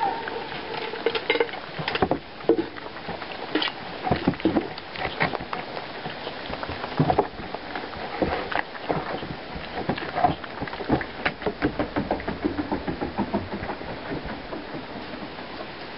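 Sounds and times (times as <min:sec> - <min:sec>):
pig chewing crunchy food: 0:00.0 - 0:15.9.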